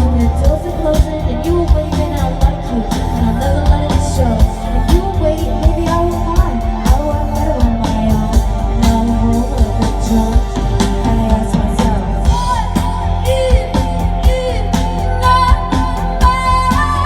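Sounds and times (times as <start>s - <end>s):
electric guitar: 0.0s - 17.0s
heavy bass: 0.0s - 17.0s.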